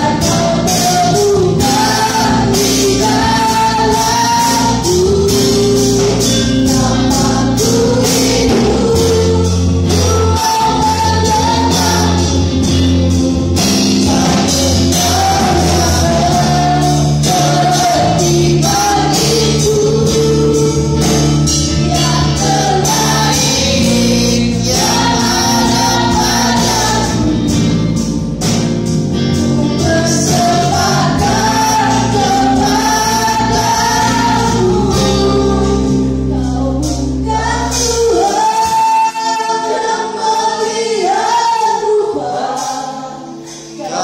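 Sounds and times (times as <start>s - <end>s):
worship song with band: 0.0s - 44.0s.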